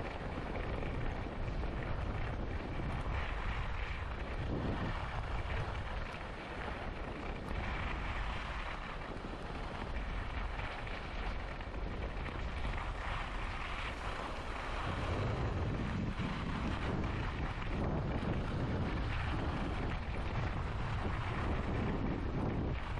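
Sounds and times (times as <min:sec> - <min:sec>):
skis sliding over snow: 0:00.0 - 0:22.9
wind buffeting the microphone: 0:00.0 - 0:22.9.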